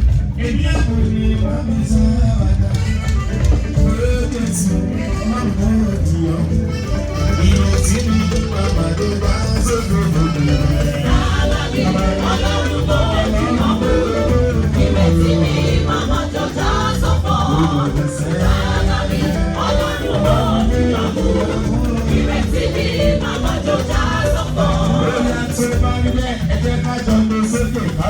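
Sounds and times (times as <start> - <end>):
band playing gospel music: 0.0 - 28.0
heavy bass line: 0.0 - 28.0
person singing: 0.3 - 28.0.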